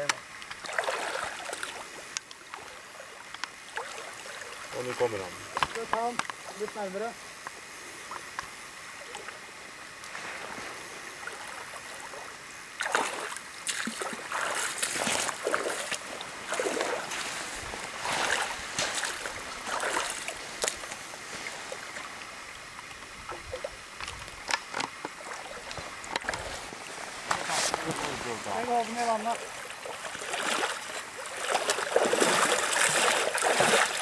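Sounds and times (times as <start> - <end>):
fish splashing in water: 0.4 - 4.8, 10.1 - 34.0.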